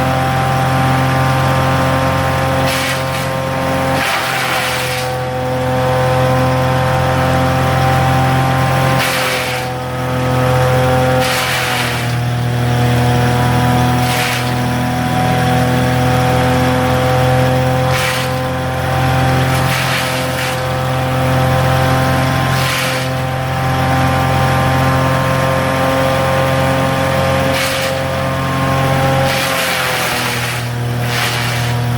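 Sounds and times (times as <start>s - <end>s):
wood chipper engine whining: 0.0s - 31.9s
wood chipping rush: 1.6s - 24.0s, 26.4s - 31.9s.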